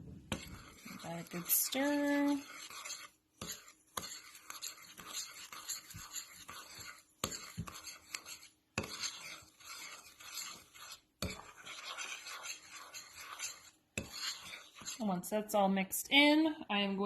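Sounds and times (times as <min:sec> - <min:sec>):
spoon stirring dry powder: 0:00.0 - 0:15.3.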